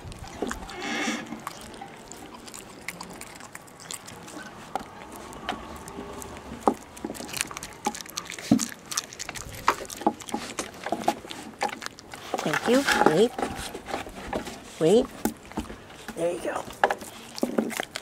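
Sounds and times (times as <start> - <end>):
puppy chewing bone with crunches: 0.0 - 18.0.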